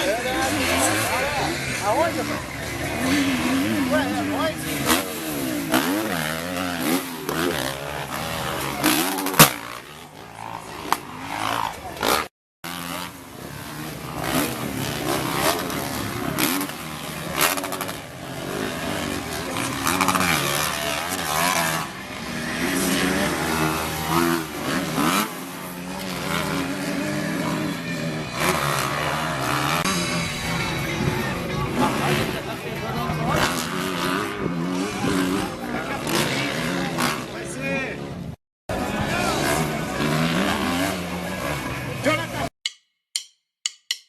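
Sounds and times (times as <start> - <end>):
motorcycle engines revving: 0.0 - 42.5.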